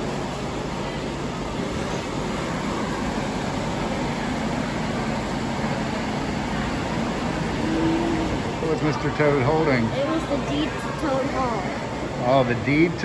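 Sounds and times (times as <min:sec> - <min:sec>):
ventilation hum and hiss: 0:00.0 - 0:13.0.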